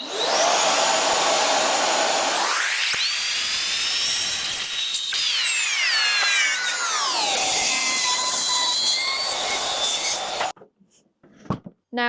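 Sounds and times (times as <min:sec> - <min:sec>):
track saw cutting wood: 0:00.0 - 0:10.5.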